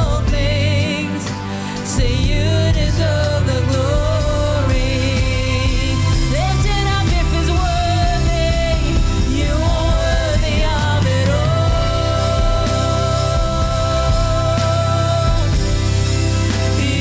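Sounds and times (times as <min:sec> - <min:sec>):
full band with strong bass: 0:00.0 - 0:17.0
person singing long held notes: 0:00.0 - 0:17.0.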